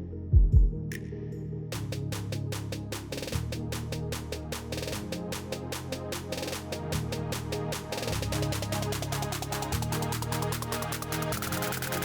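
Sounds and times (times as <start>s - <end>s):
low bass line: 0.0s - 12.0s
quick percussion ticks: 2.0s - 12.0s.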